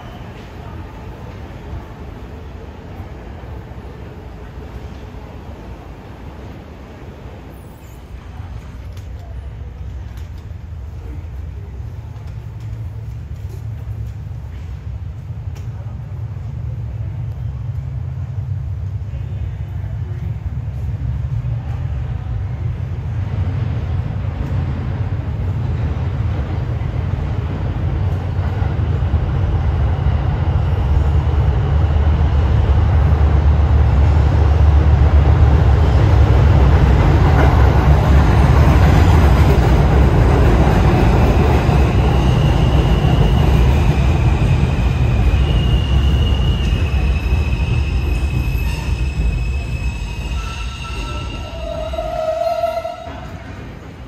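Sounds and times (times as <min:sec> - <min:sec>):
subway train rumbling on rails: 0:00.0 - 0:54.0.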